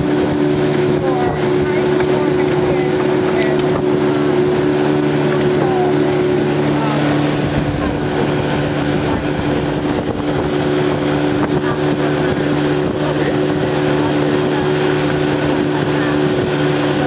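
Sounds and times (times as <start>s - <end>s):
boat wake rushing: 0.0s - 17.0s
outboard motor running: 0.0s - 17.0s.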